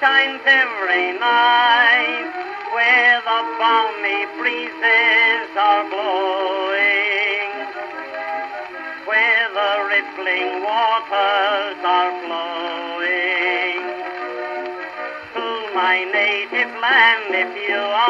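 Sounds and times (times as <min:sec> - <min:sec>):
old recording of popular song: 0:00.0 - 0:18.0.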